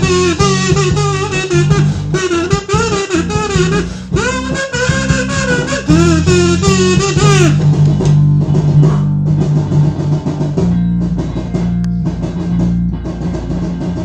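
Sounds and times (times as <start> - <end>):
bending lead guitar line: 0.0 - 14.0
rock music: 0.0 - 14.0.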